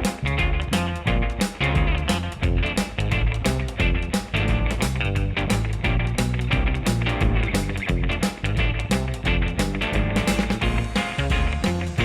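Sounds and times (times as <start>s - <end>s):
guitar rock music with drums: 0.0s - 12.0s.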